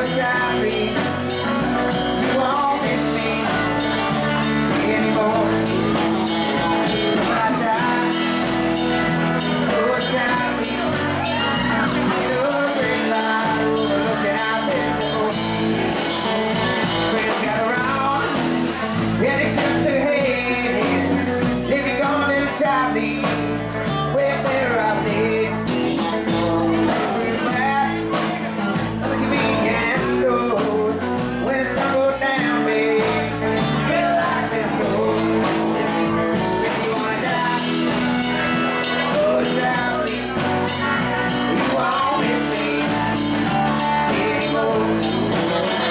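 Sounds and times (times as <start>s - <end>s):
drum kit: 0.0s - 45.9s
electric guitars: 0.0s - 45.9s
man singing into a microphone: 0.0s - 45.9s.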